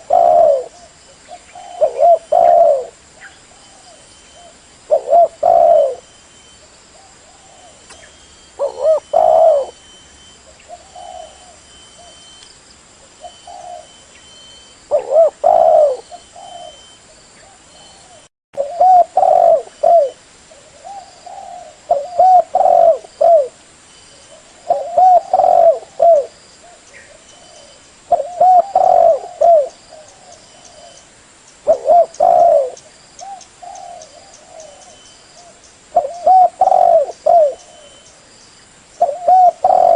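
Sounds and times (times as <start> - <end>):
dove cooing: 0.0 - 6.1, 7.0 - 12.3, 13.2 - 14.0, 14.9 - 23.6, 24.3 - 31.0, 31.6 - 38.1, 39.0 - 39.9.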